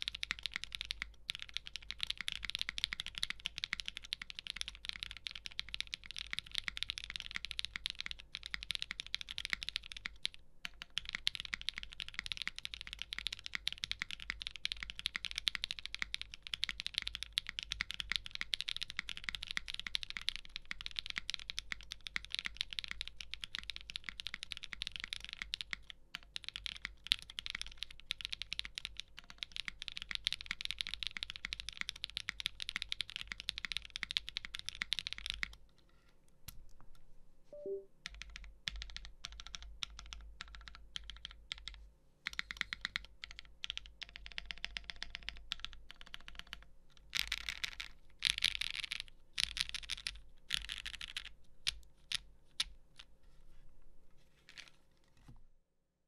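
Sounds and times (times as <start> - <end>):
mechanical keyboard typing clacks: 0.0 - 35.6, 37.6 - 51.3.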